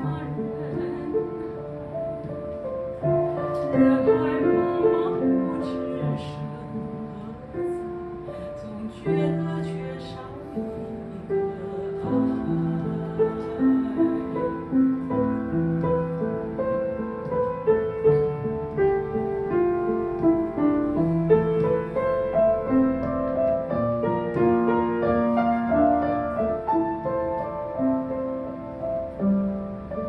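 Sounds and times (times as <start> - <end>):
keyboard ballad melody: 0.0 - 30.0.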